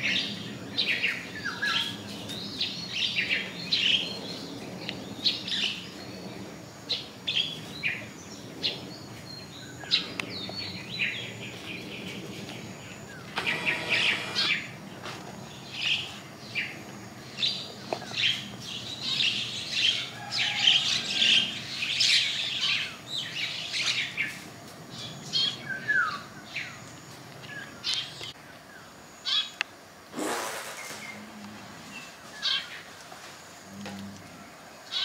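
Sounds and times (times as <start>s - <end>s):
small birds chirping: 0.0s - 29.8s.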